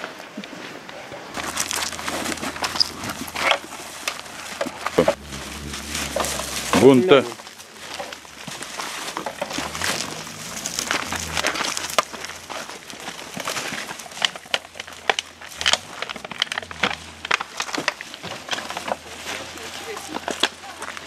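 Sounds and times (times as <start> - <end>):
plastic bags rustling and crinkling: 0.6 - 21.0.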